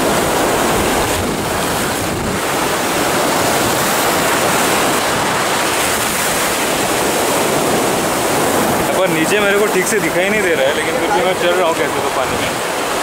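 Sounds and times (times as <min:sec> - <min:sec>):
surf washing around legs: 0:00.0 - 0:13.0
wind buffeting microphone: 0:00.0 - 0:13.0.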